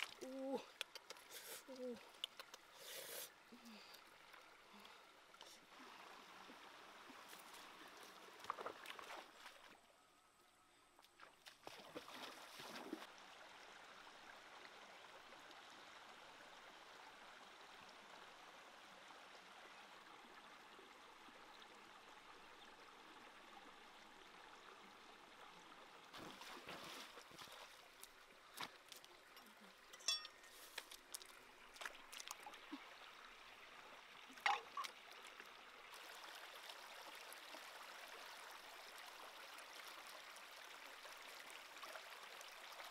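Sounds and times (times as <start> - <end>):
creek water trickling over rocks: 0.0 - 42.9.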